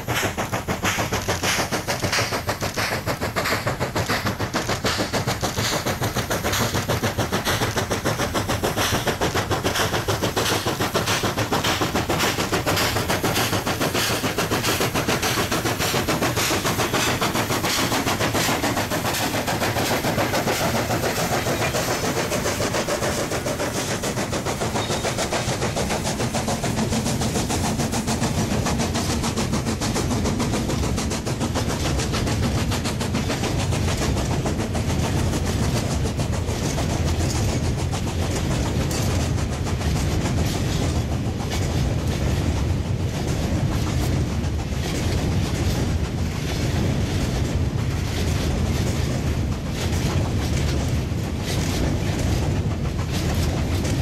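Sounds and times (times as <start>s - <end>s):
steam locomotive exhaust: 0.0s - 54.0s
train wheels clicking over rail joints: 0.0s - 54.0s.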